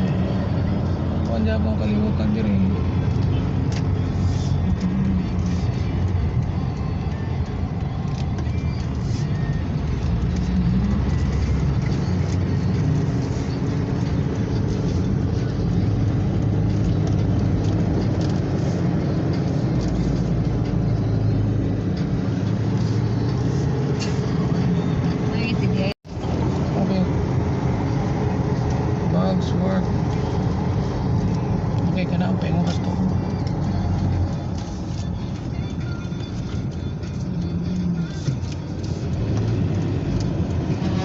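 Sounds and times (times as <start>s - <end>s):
light music: 0.0s - 41.0s.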